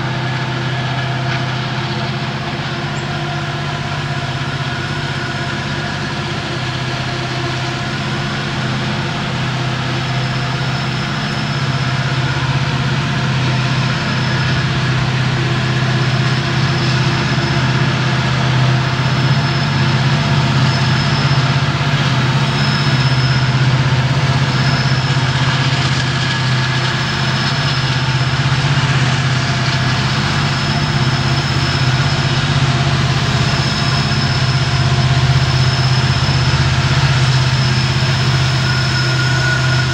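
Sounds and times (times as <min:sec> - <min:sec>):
diesel locomotive engine screaming: 0:00.0 - 0:39.9
thin high whine: 0:00.0 - 0:39.9.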